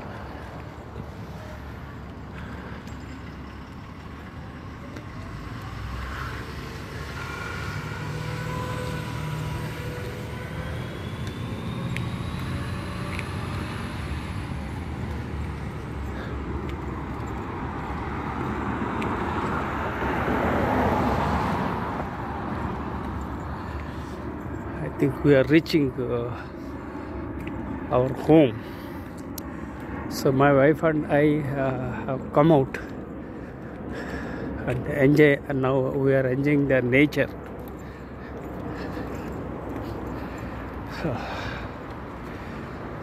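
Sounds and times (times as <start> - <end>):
vehicles driving past: 0.0 - 43.0.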